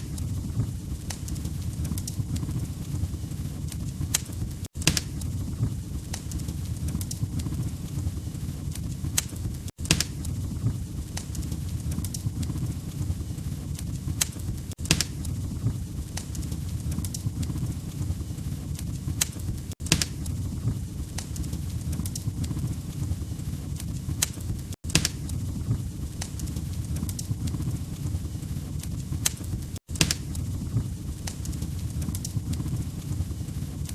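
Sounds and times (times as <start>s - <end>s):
log fire crackling: 0.0s - 33.9s.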